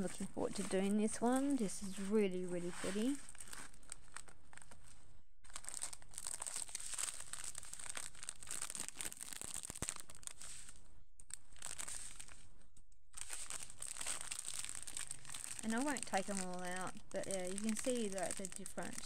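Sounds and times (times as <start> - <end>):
plastic packaging crinkling: 0.0 - 12.6, 13.2 - 19.0.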